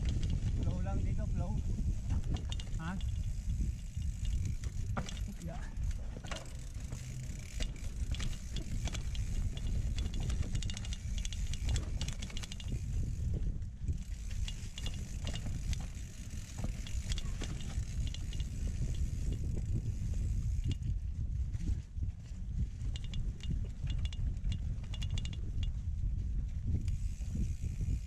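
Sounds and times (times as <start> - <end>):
freehub ticking: 0.0 - 21.0, 22.6 - 26.0
chain and bike rattling: 0.0 - 28.0
steady low rumble: 0.0 - 28.0.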